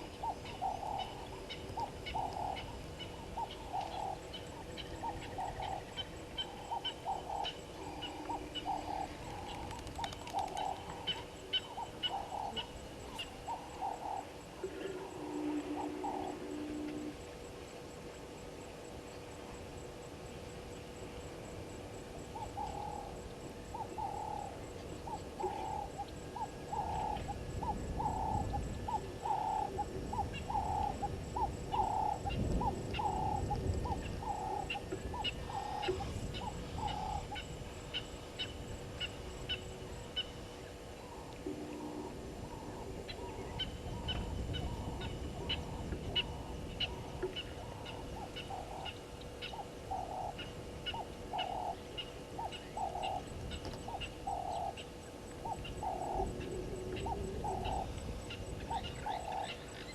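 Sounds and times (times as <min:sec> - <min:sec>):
bird calling hoarse notes: 0:00.0 - 0:17.3, 0:22.2 - 0:59.9.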